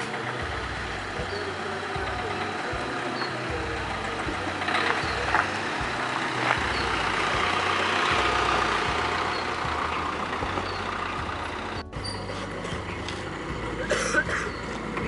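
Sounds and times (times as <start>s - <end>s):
street noise: 0.0s - 15.0s
vehicle engine running: 0.0s - 15.0s.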